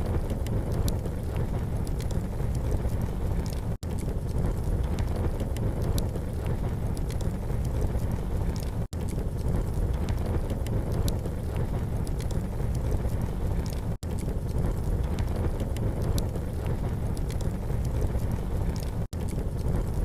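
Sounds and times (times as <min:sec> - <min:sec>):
campfire crackling and popping: 0:00.0 - 0:20.0
low rumble: 0:00.0 - 0:20.0.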